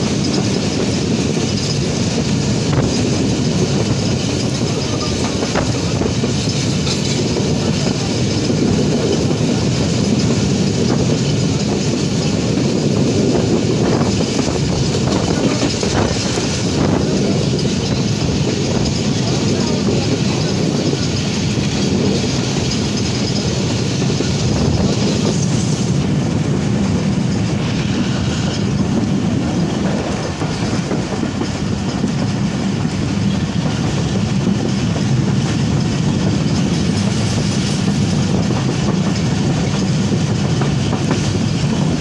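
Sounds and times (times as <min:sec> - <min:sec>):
train wheels on rails: 0:00.0 - 0:42.0.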